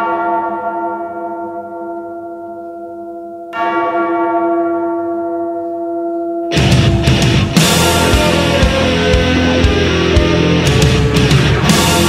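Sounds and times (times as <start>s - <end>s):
large bell tolling: 0.0s - 12.0s.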